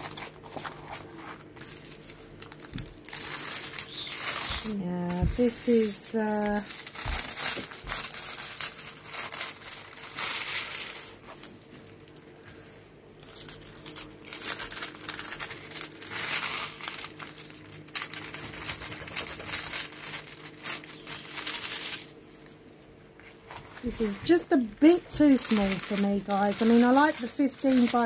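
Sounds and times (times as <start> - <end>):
plastic film crinkling: 0.0 - 12.4, 13.2 - 28.0.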